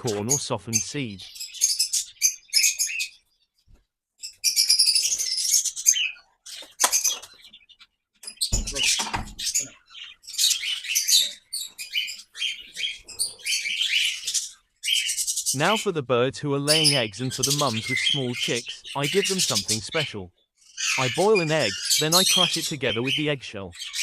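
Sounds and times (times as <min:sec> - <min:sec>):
birds chirping and chattering: 0:00.0 - 0:24.0.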